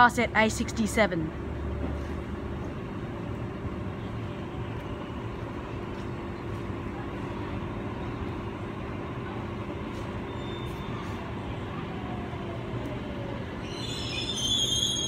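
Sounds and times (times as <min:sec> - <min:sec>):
electric train rumbling: 0:00.0 - 0:15.0
electrical hum of train: 0:00.0 - 0:15.0.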